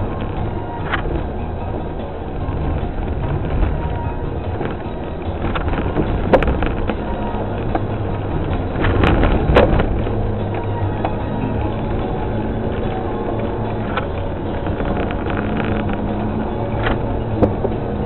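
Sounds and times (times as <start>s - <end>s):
rally car engine running: 0.0s - 18.0s
road and wind noise: 0.0s - 18.0s.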